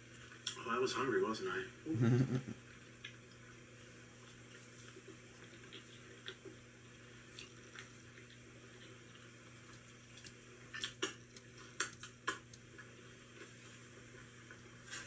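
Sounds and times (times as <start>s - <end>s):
low steady hum: 0.0s - 15.0s
person chewing fries: 2.6s - 15.0s.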